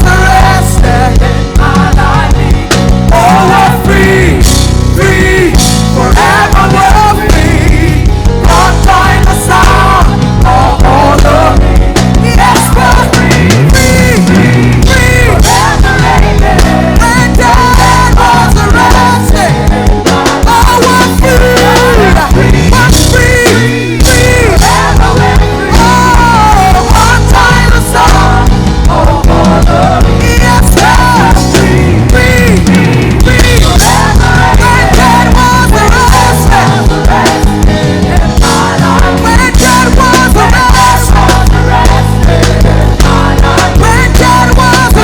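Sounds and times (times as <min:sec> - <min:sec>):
guitar: 0:00.0 - 0:45.0
live worship band playing: 0:00.0 - 0:45.0.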